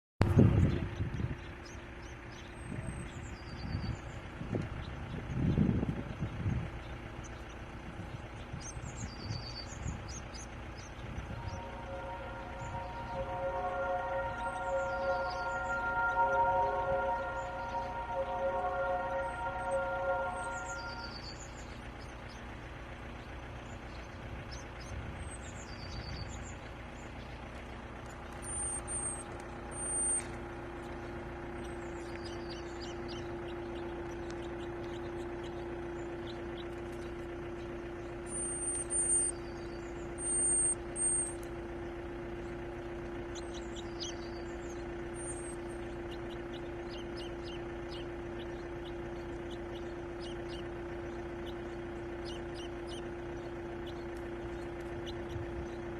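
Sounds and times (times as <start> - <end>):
birds chirping: 0.2 - 55.9
low mechanical hum: 0.2 - 55.9.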